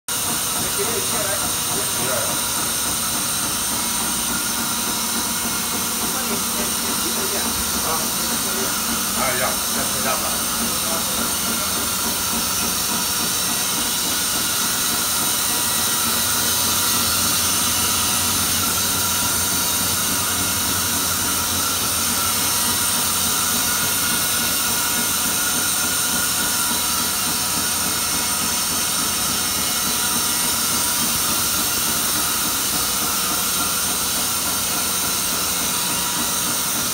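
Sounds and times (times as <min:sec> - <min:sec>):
stamping press running: 0:00.1 - 0:36.9.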